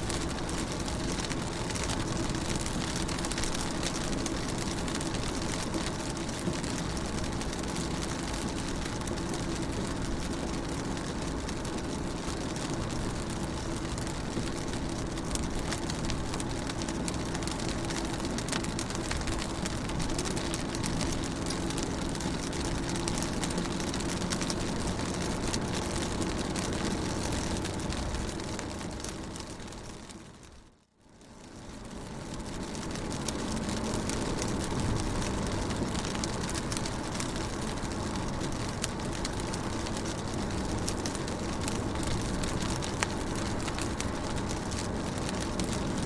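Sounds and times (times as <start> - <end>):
rain on car windows and roof: 0.0 - 46.0.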